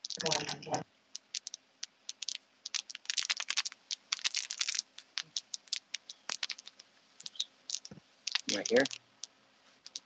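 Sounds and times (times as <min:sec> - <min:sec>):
plastic crinkling: 0:00.0 - 0:10.0.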